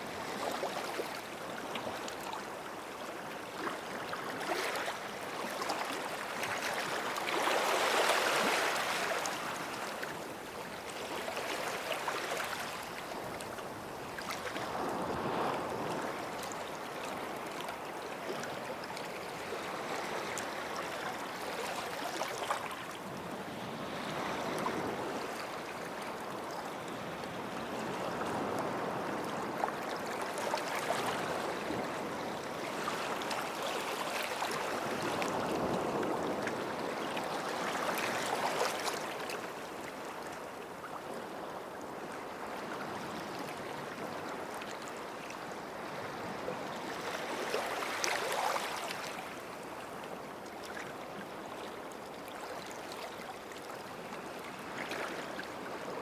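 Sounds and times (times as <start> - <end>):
small waves washing onto sand: 0.0 - 51.8.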